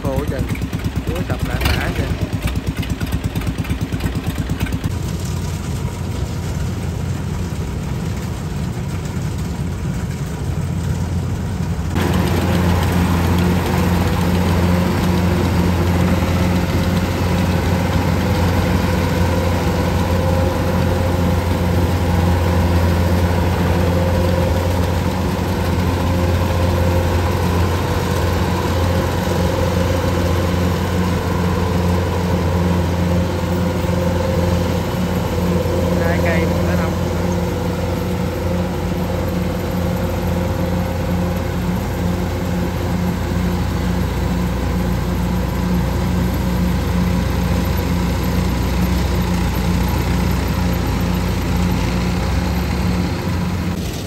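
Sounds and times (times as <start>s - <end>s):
combine harvester engine and threshing: 0.0s - 54.0s.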